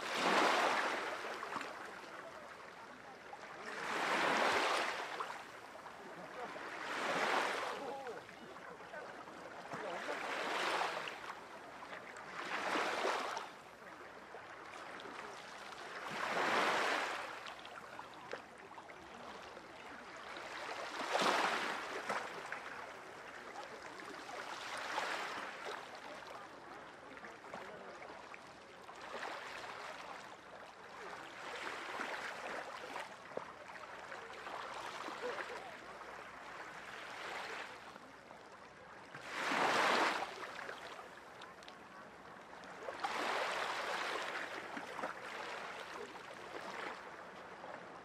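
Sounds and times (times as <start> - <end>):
small waves washing onto shore: 0.0 - 48.0.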